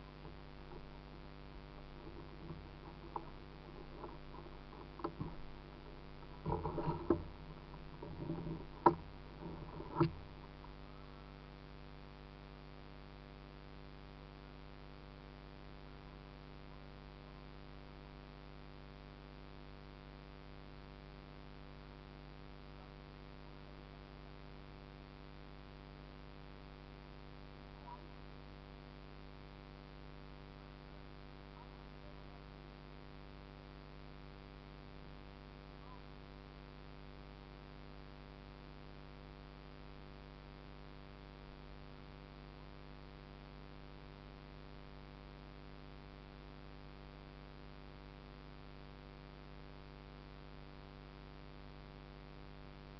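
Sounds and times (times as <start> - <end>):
electrical hum: 0.0 - 47.8.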